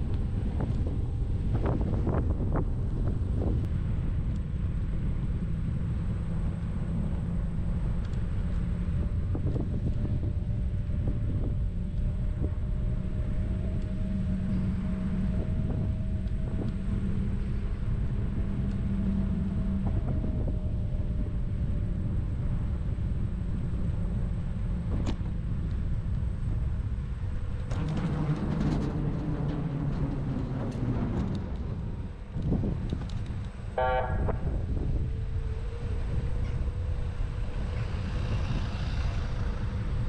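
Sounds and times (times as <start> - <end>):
deeper louder tone: 0.0 - 32.8, 33.6 - 40.0
motor vehicle rumbling: 0.0 - 40.0.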